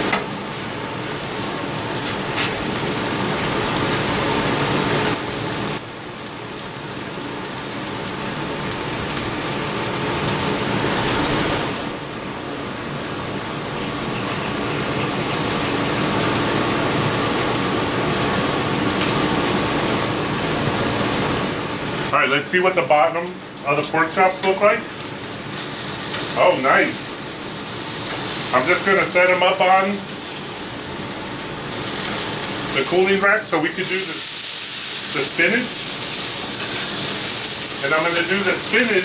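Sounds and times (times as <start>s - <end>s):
meat sizzling on a griddle: 0.0s - 13.8s, 15.0s - 22.1s, 23.6s - 39.0s.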